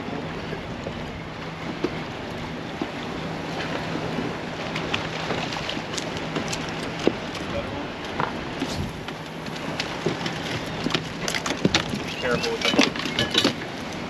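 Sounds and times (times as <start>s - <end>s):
boat engine idling: 0.0s - 14.0s
water washing: 0.0s - 14.0s
wind on microphone: 0.0s - 14.0s.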